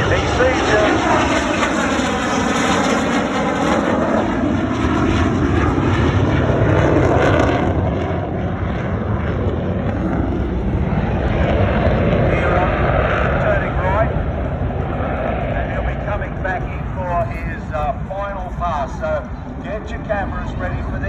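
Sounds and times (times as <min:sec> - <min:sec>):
jet fighter rumble passing: 0:00.0 - 0:21.0.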